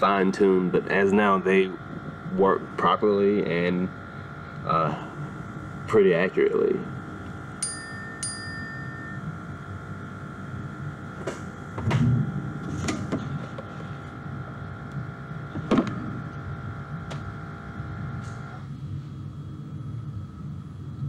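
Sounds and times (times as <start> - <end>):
cnc router whine: 0.0 - 21.0.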